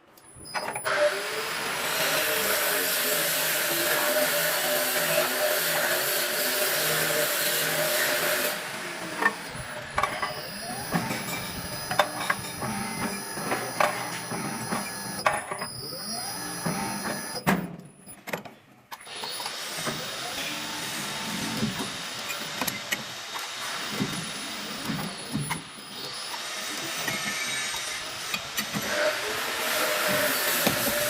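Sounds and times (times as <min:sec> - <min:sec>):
workshop machine hissing: 0:00.6 - 0:17.6, 0:19.0 - 0:31.0.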